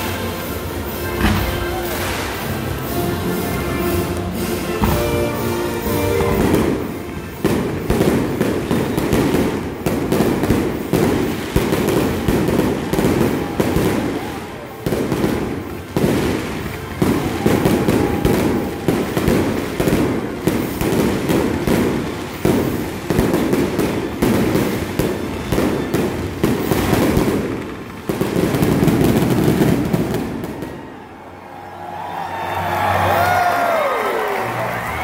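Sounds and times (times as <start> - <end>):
fireworks bursting: 0.0 - 31.3.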